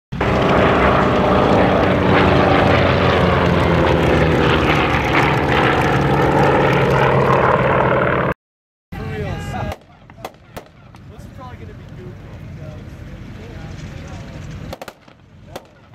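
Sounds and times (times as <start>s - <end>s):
propeller aircraft flying past: 0.1s - 8.4s, 9.0s - 15.9s.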